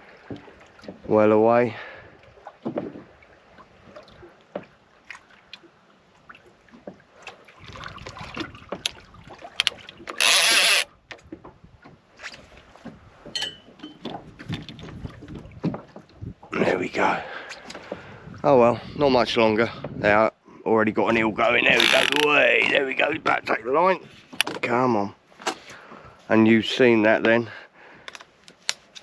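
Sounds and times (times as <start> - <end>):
faint water noise: 0.0 - 29.0.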